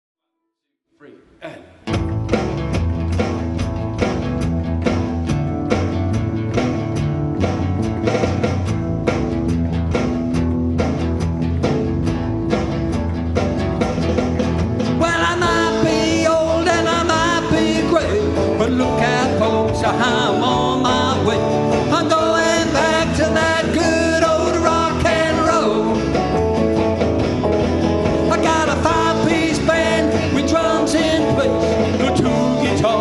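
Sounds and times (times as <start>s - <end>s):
bass and guitar chords: 1.7s - 33.0s
driving drum beat: 1.8s - 33.0s
wavering lead guitar line: 1.8s - 33.0s.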